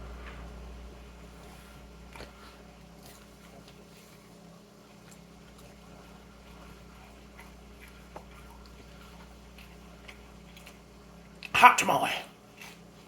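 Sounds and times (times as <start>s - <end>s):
low hum: 0.0s - 10.5s
quiet chewing: 1.4s - 11.6s, 12.3s - 13.0s.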